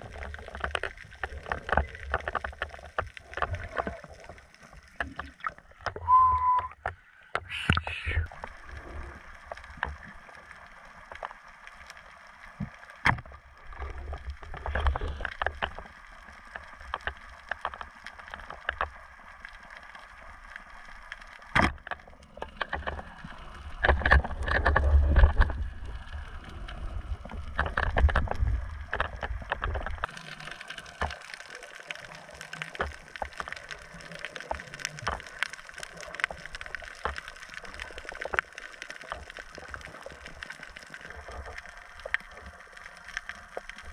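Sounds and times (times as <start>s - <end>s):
underwater clicks and crackles: 0.0s - 43.9s
underwater rushing and sloshing: 0.0s - 43.9s.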